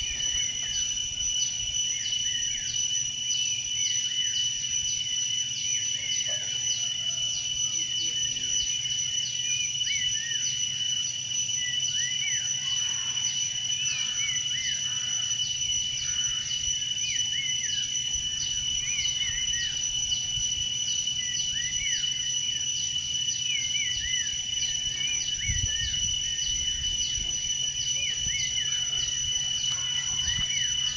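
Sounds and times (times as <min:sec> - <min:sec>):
insects buzzing and chirping: 0:00.0 - 0:30.9.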